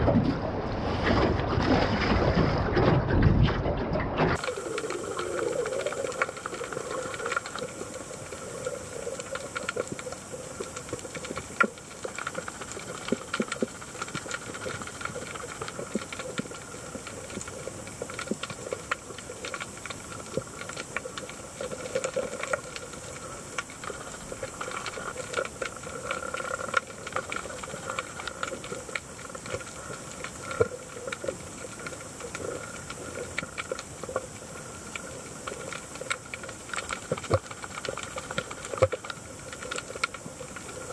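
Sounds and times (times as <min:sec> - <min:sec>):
crackle of small clicks: 0:04.3 - 0:40.9
underwater hiss: 0:04.4 - 0:40.9.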